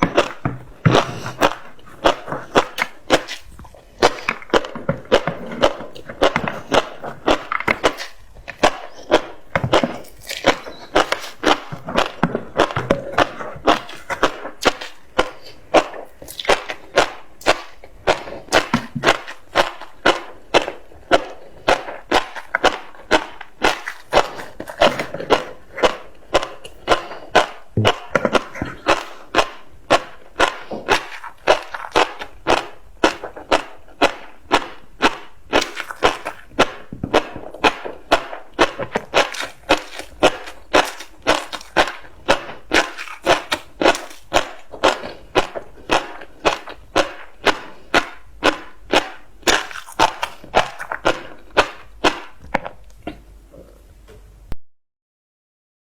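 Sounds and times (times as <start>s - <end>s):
chewing crunchy fish roe: 0.0s - 54.0s.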